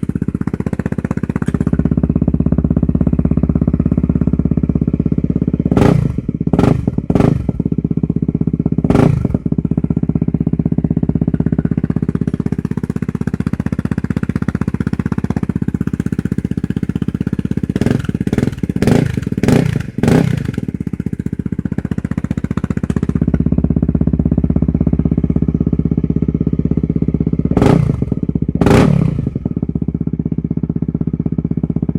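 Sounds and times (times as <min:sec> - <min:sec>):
motorcycle engine idling: 0:00.0 - 0:31.9.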